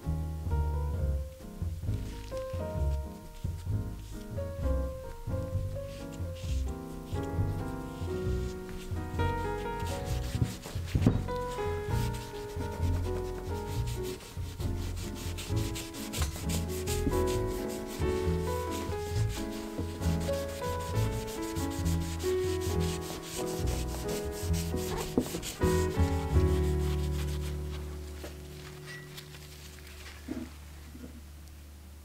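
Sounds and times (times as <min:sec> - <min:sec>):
gloved hand scrubbing steel: 0:01.9 - 0:30.2.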